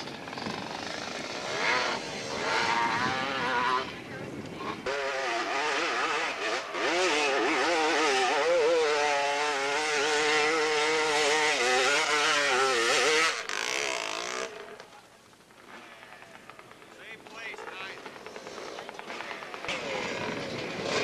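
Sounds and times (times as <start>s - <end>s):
dirt bike engine revving: 0.0s - 14.9s, 15.5s - 21.0s.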